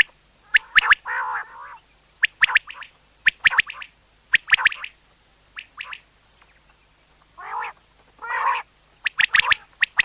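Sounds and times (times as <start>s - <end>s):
quail calling: 0.0s - 6.7s, 7.4s - 10.0s.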